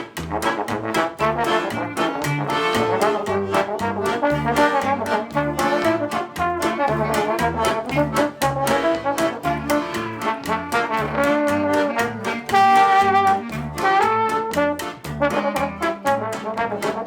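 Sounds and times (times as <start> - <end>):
brass-led jazz band music: 0.0 - 17.0.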